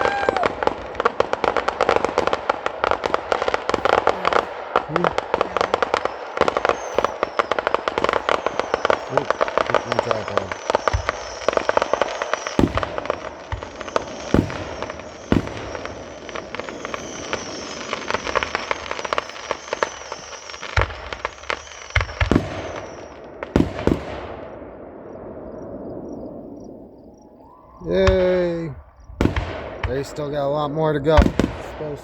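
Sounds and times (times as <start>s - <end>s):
fireworks crackle: 0.0s - 24.9s, 27.2s - 32.0s
fireworks bangs: 0.0s - 32.0s.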